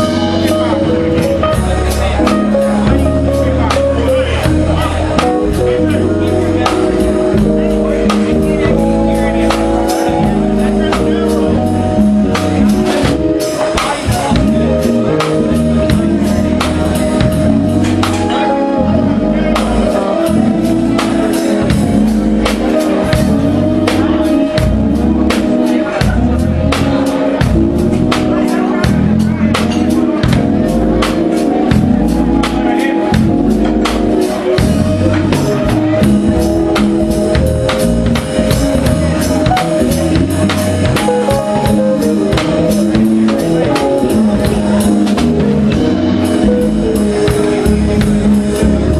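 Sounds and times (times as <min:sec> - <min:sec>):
drum kit beat: 0:00.0 - 0:48.9
live band playing: 0:00.0 - 0:48.9
sustained pitched notes: 0:00.0 - 0:48.9.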